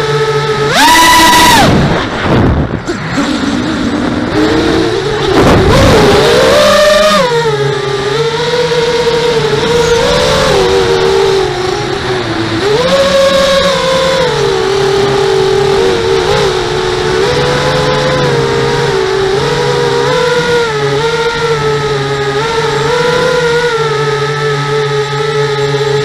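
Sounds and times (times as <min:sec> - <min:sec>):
quadcopter propellers whining: 0:00.0 - 0:26.0.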